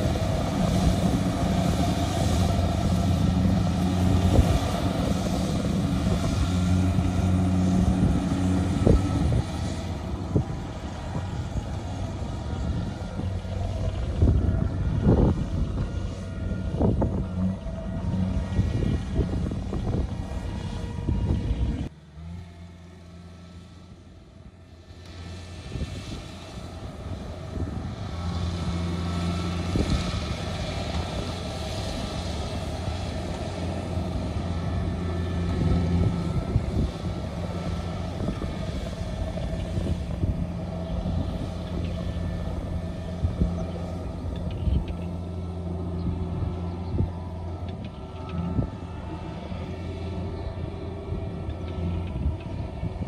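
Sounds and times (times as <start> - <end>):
combine harvester engine humming: 0.0 - 53.0.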